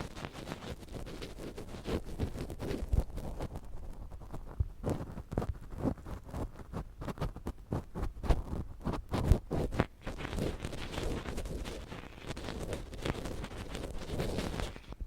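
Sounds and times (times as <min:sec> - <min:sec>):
ear pick scraping and tapping: 0:00.0 - 0:15.0.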